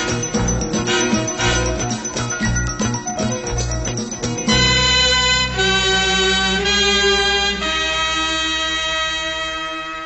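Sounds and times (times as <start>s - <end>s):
long held music notes: 0.0s - 10.0s.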